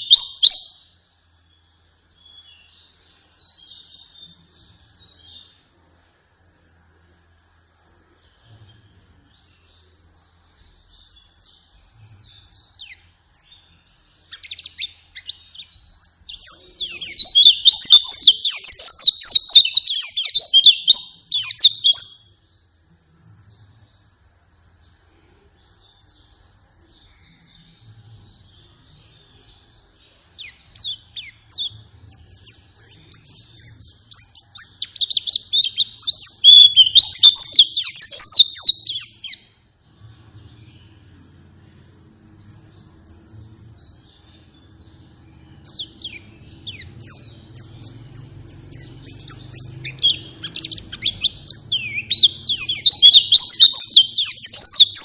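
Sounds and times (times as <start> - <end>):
birds twittering song: 0.0 - 55.0
soft bird chirps: 0.0 - 55.0.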